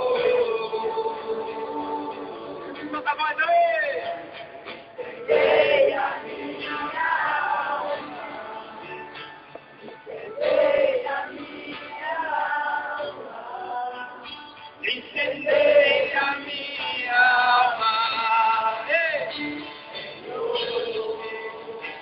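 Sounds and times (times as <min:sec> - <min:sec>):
male and female voices singing: 0:00.0 - 0:03.1, 0:05.0 - 0:22.0.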